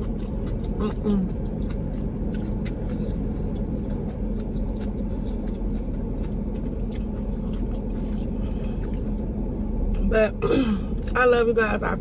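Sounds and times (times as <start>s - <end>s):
person chewing food: 0.0s - 10.0s
car air conditioning humming: 0.0s - 12.0s.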